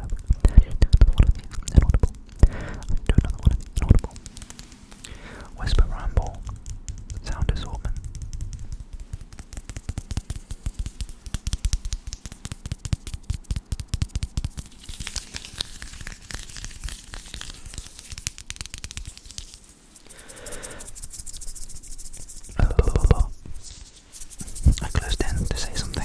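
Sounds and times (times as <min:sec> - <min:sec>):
crackling and clicking: 0:00.0 - 0:26.0
soft hiss: 0:00.0 - 0:26.0.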